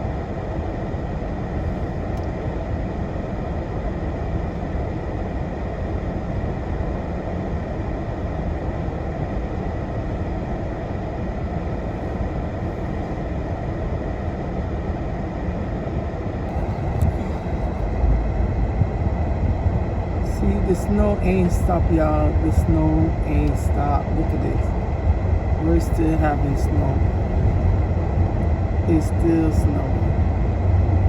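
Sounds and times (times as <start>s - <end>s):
car engine rumble from cabin: 0.0s - 31.0s.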